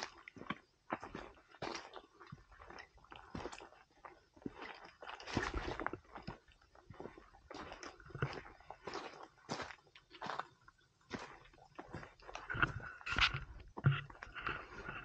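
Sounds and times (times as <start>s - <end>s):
footsteps on stones and dry leaves: 0.0s - 15.0s.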